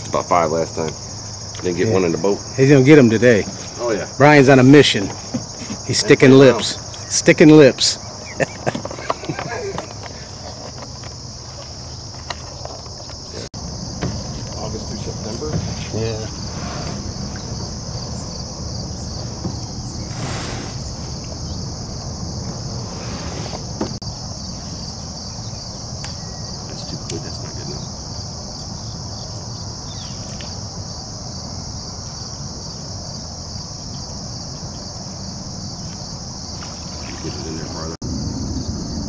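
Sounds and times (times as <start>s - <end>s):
insects trilling: 0.0s - 39.0s.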